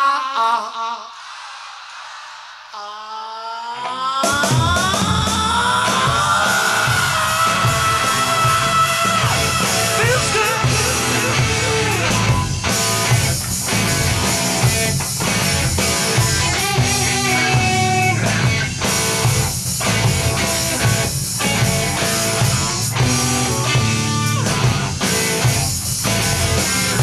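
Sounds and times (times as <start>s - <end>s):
drums: 3.8s - 27.0s
electric guitar: 4.2s - 27.0s
bass guitar: 4.3s - 27.0s.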